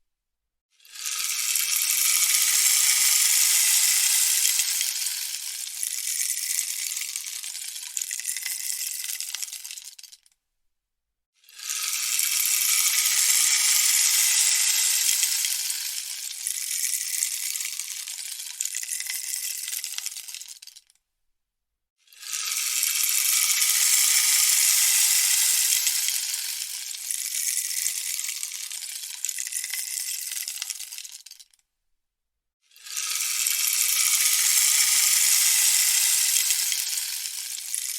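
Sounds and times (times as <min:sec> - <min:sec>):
rainstick beads hissing: 0:00.8 - 0:10.2, 0:11.4 - 0:20.9, 0:22.1 - 0:31.5, 0:32.7 - 0:37.9.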